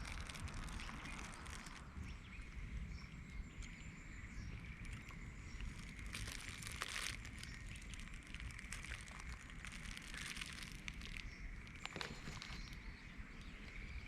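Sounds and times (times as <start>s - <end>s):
light crackles: 0.0s - 14.0s.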